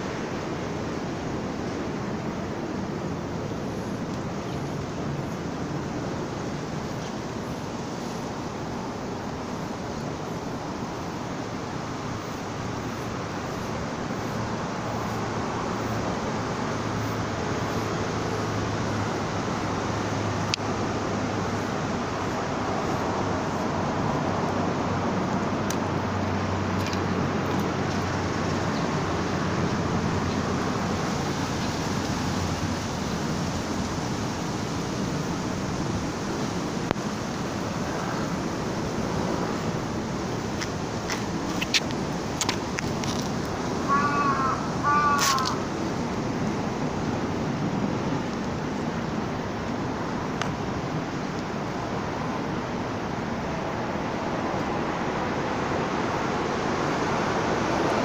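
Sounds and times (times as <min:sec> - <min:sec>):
rumbling outdoor background noise: 0:00.0 - 0:58.0.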